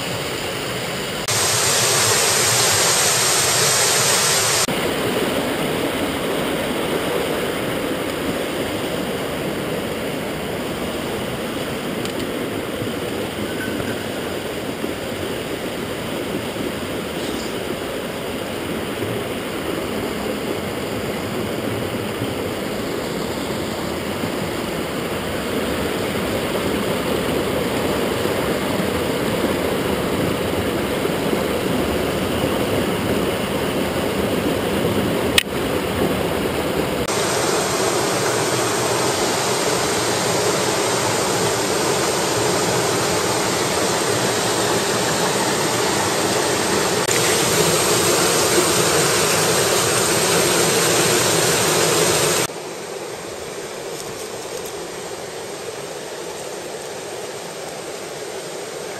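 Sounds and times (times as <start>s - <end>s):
stream rushing over boulders: 0.0s - 58.9s.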